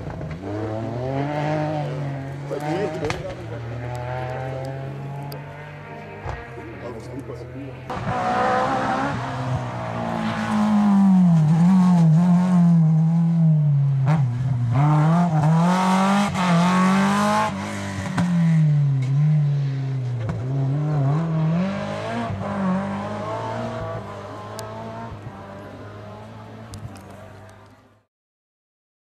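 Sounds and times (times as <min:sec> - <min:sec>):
rally car engines revving: 0:00.0 - 0:27.9.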